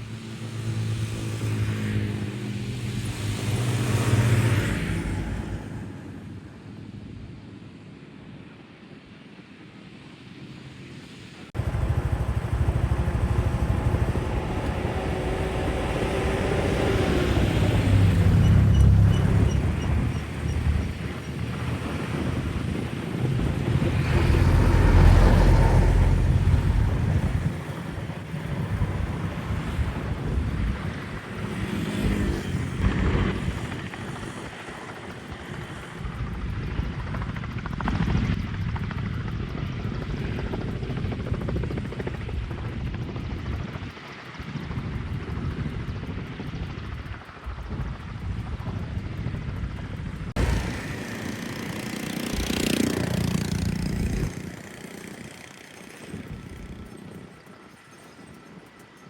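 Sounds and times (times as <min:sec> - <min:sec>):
low aircraft rumble: 0:11.4 - 0:59.0
wind buffeting microphone: 0:11.6 - 0:59.0.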